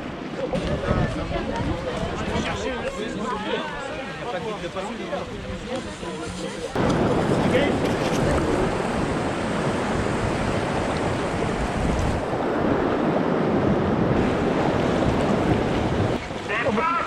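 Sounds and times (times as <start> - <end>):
river water rushing and splashing: 0.0 - 17.0.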